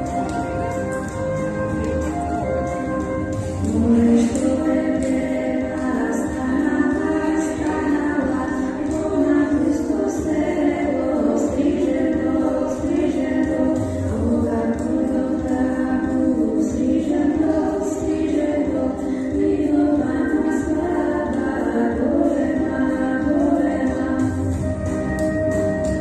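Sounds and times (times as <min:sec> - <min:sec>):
group of voices singing: 0:03.6 - 0:25.0.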